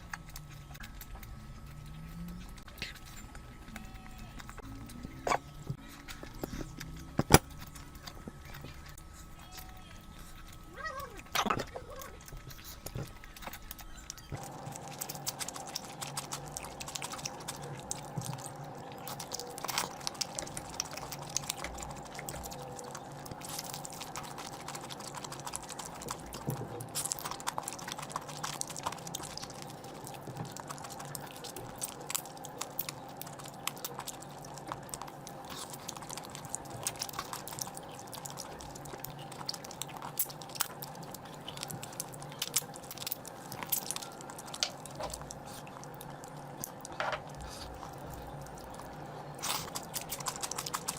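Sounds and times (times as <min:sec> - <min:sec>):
steady low hum: 0:00.0 - 0:50.9
wet chewing and mouth smacks: 0:00.0 - 0:50.9.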